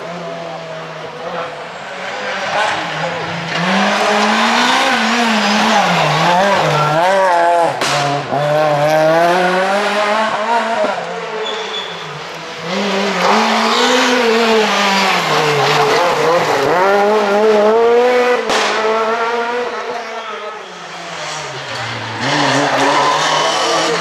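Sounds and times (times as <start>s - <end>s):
rally cars revving past: 0.0s - 24.0s.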